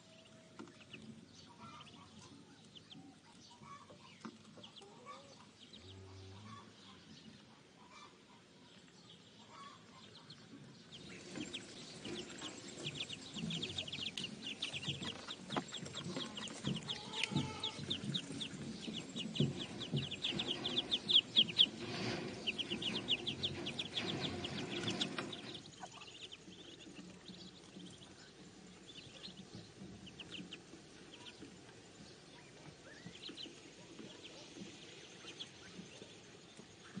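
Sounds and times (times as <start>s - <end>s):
ducklings peeping: 0.0s - 37.0s.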